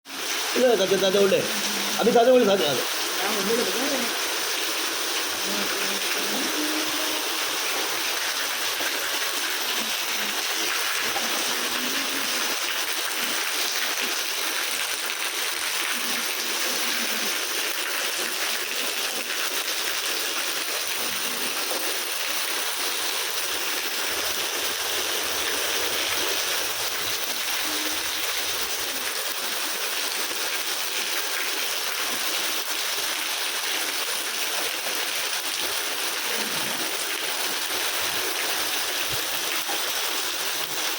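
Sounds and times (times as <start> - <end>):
rain falling: 0.1 - 40.9.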